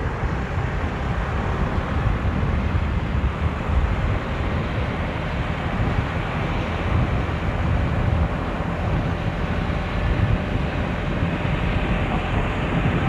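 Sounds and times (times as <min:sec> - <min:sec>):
road noise: 0:00.0 - 0:13.0
wind rumble over microphone: 0:00.0 - 0:13.0.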